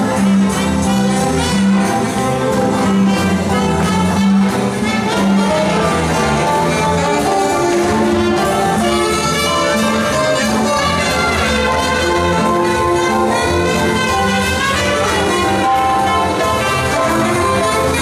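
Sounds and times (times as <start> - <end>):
saxophone: 0.0 - 18.0
swing jazz band playing: 0.0 - 18.0
trumpet: 0.0 - 18.0.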